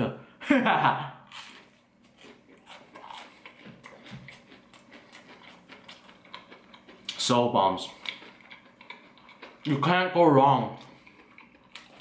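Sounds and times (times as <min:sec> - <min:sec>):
crunchy chewing of fried chicken: 0:01.2 - 0:12.0.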